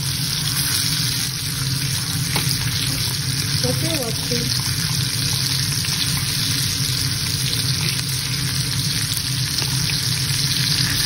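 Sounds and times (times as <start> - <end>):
meat sizzling in butter: 0.0 - 11.0.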